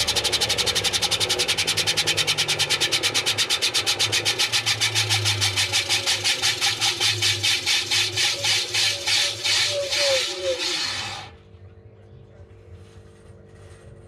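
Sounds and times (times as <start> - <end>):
rhythmic swish of spinning drum: 0.0 - 11.6
low motor hum: 0.0 - 14.0.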